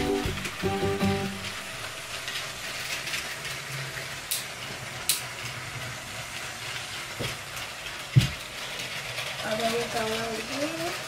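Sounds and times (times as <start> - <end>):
toy train motor hum: 0.0 - 11.0.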